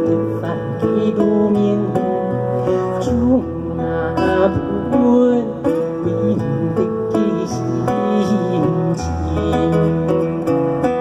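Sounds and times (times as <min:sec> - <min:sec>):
plucked strings melody: 0:00.0 - 0:11.0.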